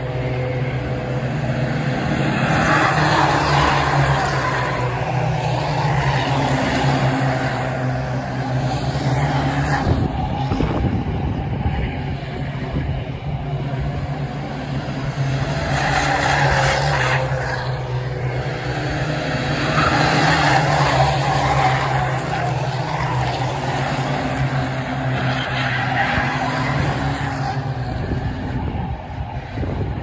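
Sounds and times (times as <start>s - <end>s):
race car engines revving: 0.0s - 30.0s.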